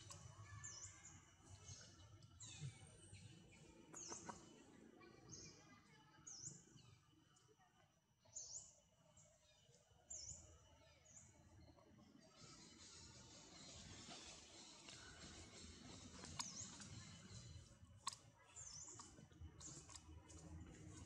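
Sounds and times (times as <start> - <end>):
faint high-pitched bird chirps: 0.0 - 21.0.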